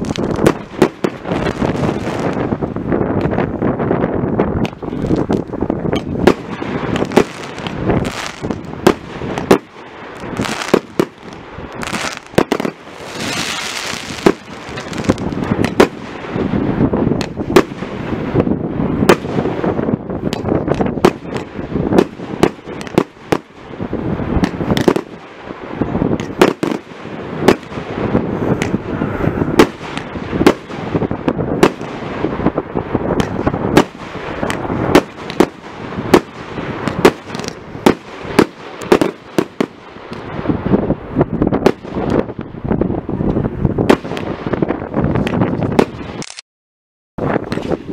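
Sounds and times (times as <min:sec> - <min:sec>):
fireworks bursting with bangs: 0:00.0 - 0:46.2, 0:47.2 - 0:47.9
fireworks crackling: 0:00.0 - 0:46.2.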